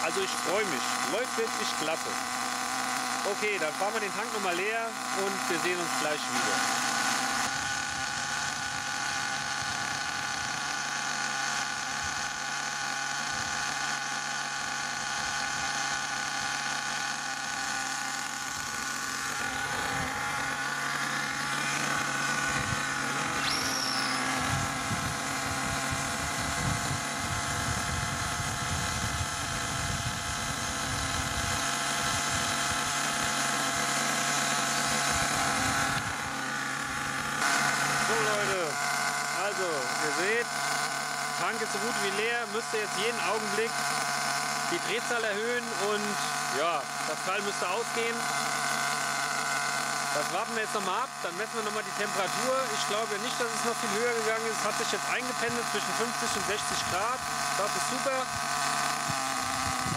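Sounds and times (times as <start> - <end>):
nitro engine idling: 0.0 - 59.9.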